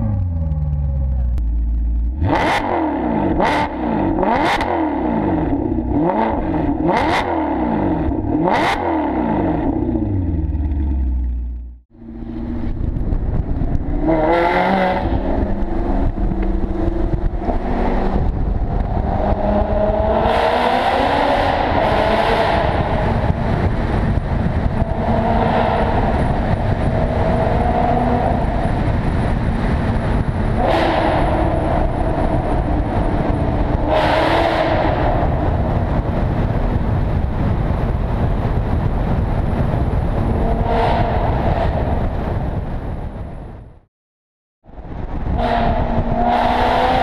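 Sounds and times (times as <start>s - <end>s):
car engine revving in tunnel: 0.0s - 43.9s, 44.7s - 47.0s.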